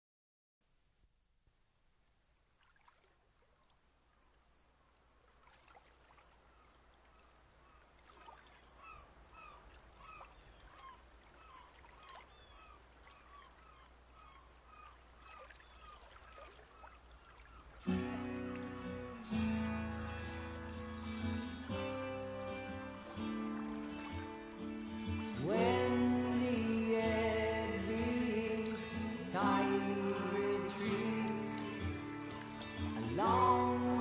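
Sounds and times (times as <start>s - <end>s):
water lapping: 2.2s - 34.0s.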